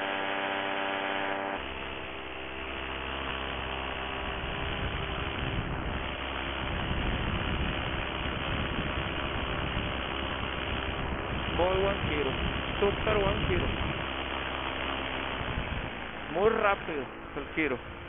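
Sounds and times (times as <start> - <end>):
paramotor engine and propeller hum: 0.0 - 18.0.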